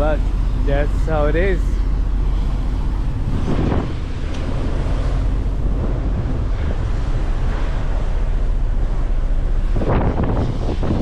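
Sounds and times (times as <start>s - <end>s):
wash of rough sea: 0.0s - 11.0s
wind rumbling on microphone: 0.0s - 11.0s.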